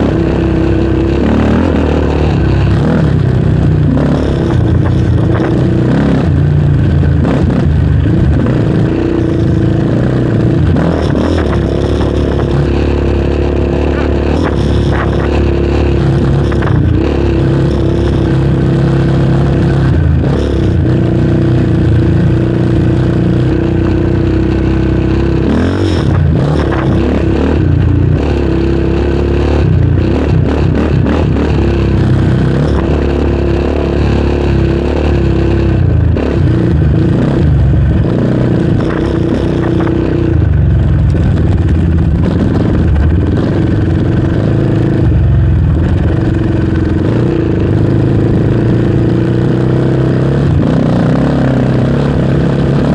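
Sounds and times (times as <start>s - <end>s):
quad bike engine revving: 0.0s - 52.9s.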